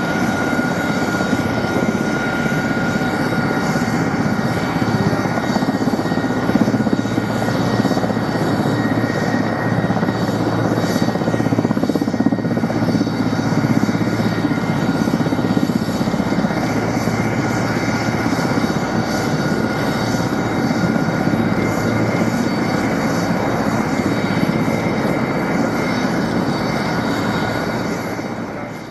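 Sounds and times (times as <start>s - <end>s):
helicopter engine whine: 0.0s - 28.9s
helicopter rotor beating: 0.0s - 28.9s.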